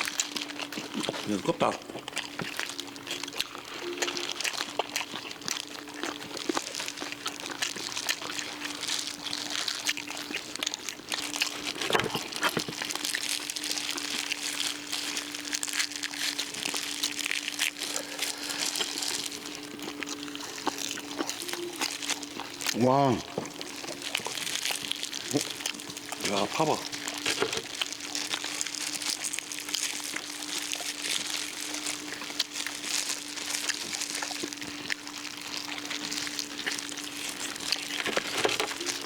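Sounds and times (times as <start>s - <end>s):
crispy skin crackling while chewed: 0.0s - 39.0s
faint steady hum: 0.0s - 39.0s.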